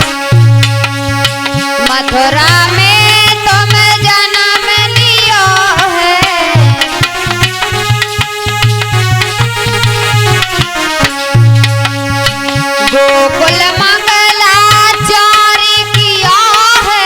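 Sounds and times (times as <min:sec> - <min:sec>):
melodic lead instrument: 0:00.0 - 0:16.2
hand drum beat: 0:00.0 - 0:17.0.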